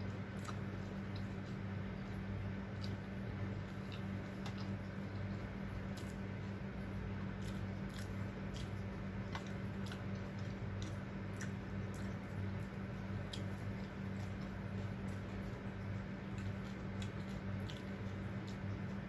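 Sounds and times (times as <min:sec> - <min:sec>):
person chewing crunchy food: 0:00.0 - 0:19.0
steady low hum: 0:00.0 - 0:19.0.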